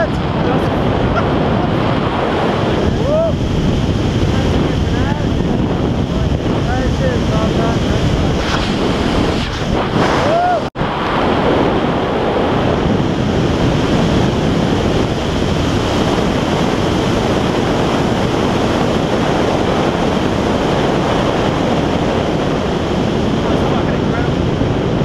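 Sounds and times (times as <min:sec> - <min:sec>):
wind roaring over microphone: 0:00.0 - 0:25.0.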